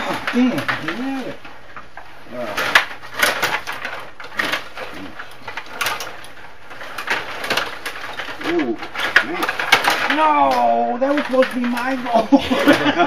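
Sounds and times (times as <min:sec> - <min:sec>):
plastic clacks and knocks: 0:00.0 - 0:13.0
rods rattling in slots: 0:00.0 - 0:13.0.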